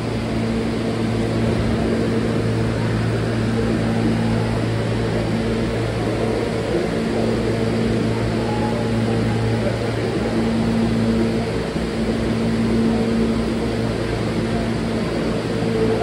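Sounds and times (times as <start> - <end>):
subway car hum and rumble: 0.0 - 16.0.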